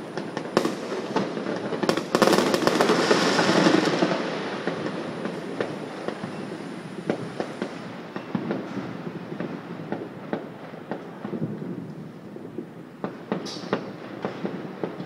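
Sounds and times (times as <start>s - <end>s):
distant fireworks cracking and popping: 0.0s - 15.0s.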